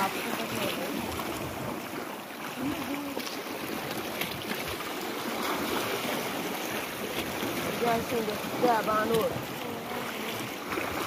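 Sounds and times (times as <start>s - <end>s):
sea water splashing on rocks: 0.0s - 11.0s.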